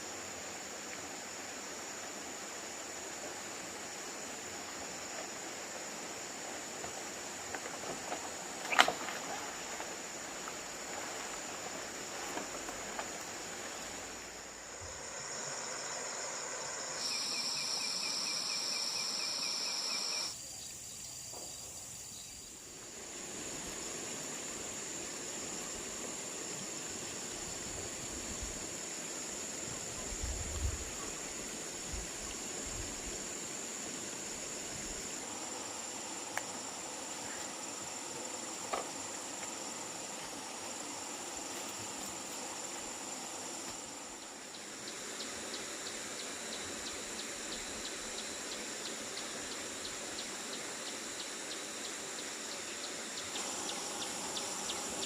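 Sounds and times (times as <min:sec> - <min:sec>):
insects buzzing: 0:00.0 - 0:55.0
pulsing insect call: 0:00.0 - 0:55.0.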